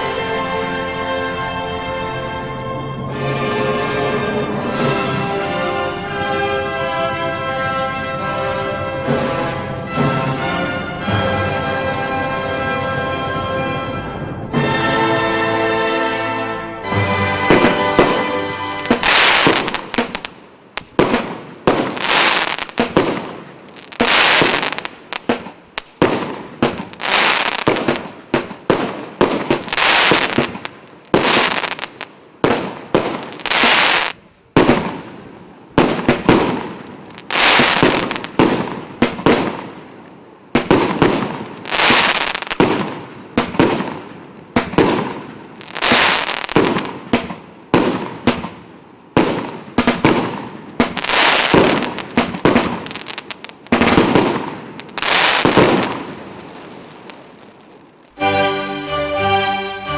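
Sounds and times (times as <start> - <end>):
crackling fizz of fireworks: 0.0 - 58.4
fireworks bursting: 0.0 - 59.0.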